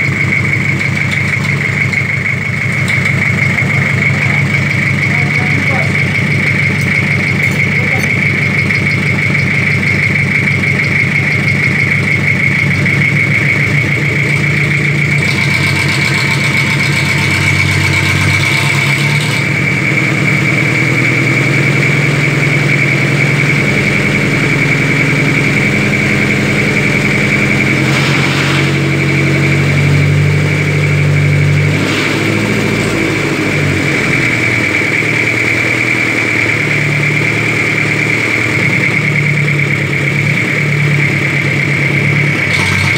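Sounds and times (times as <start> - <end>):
diesel engine revving: 0.0 - 42.9.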